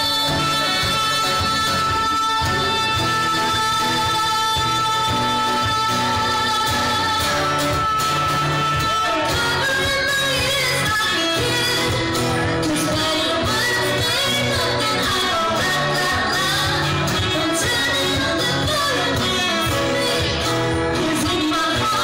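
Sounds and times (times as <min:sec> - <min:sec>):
acoustic guitar: 0:00.0 - 0:22.0
woman singing: 0:00.0 - 0:22.0.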